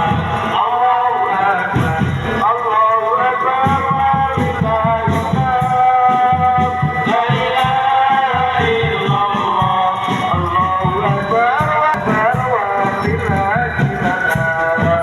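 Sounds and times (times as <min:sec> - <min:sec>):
loud music over sound system: 0:00.0 - 0:15.0.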